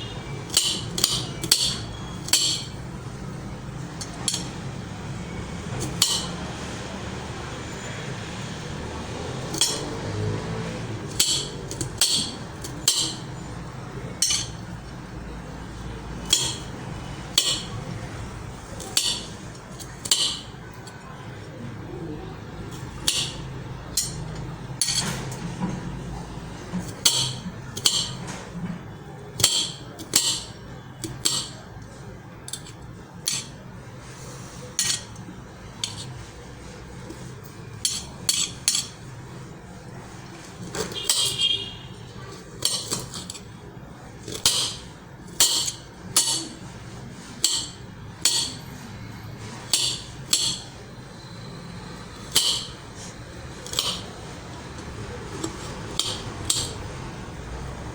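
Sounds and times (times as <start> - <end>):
utensils and dishware clinking: 0.0 - 57.9.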